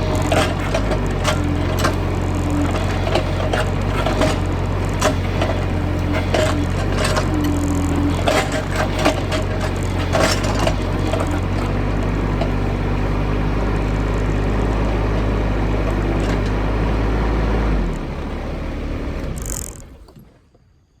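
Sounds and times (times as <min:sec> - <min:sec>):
diesel engine running: 0:00.0 - 0:20.2.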